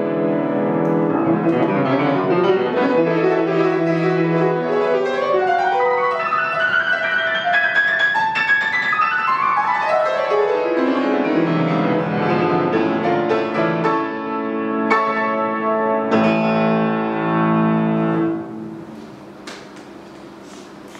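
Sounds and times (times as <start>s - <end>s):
grand piano played fast: 0.0s - 18.9s.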